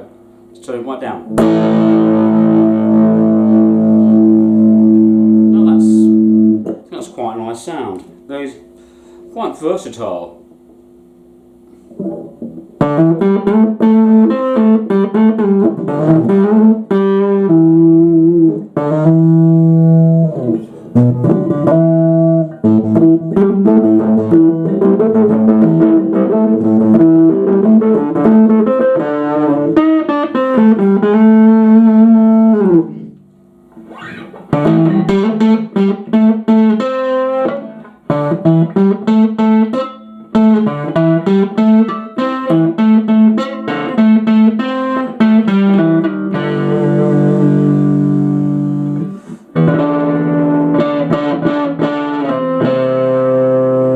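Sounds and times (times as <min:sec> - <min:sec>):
electric guitar playing: 0:00.0 - 0:09.2, 0:11.0 - 0:53.9.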